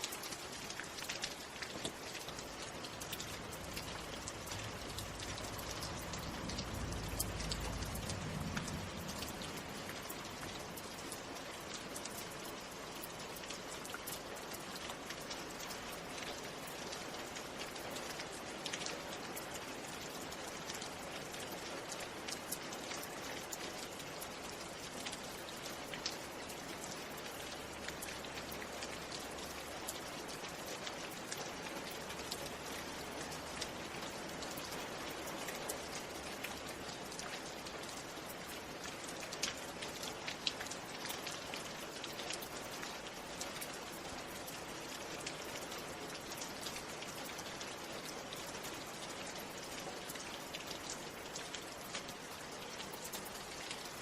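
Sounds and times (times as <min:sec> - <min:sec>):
raindrops pattering: 0:00.0 - 0:54.0.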